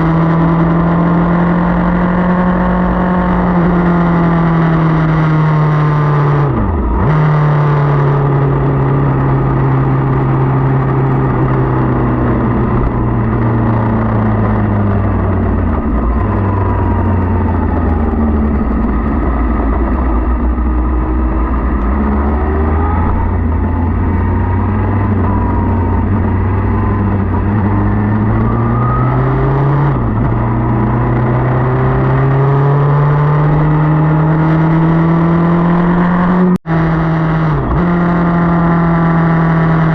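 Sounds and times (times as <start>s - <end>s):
gear change: 0.0s - 39.9s
motorcycle engine revving: 0.0s - 39.9s
rush of noise: 0.0s - 39.9s.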